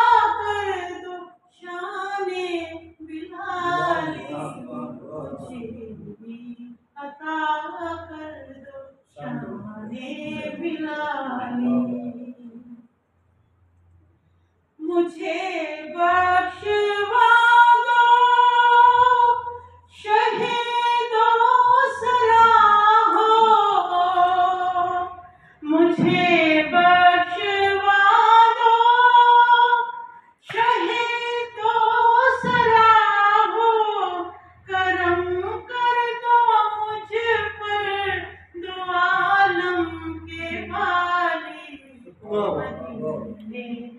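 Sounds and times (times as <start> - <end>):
woman singing unaccompanied: 0.0 - 12.8, 14.8 - 43.9.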